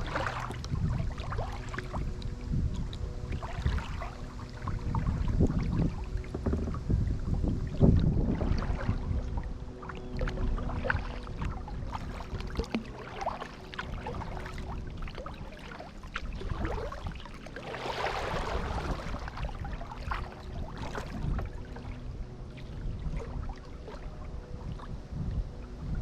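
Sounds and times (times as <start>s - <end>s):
paddle splashing in water: 0.0s - 24.9s.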